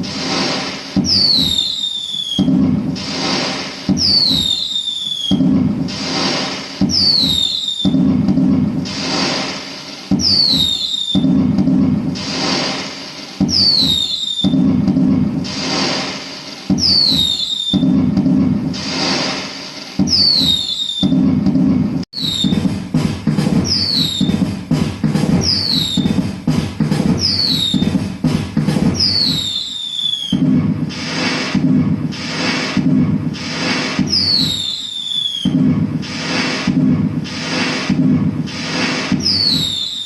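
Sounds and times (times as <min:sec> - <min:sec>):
firework whistles falling: 0:00.0 - 0:21.3, 0:22.1 - 0:40.0
fireworks crackling and booming: 0:00.0 - 0:40.0.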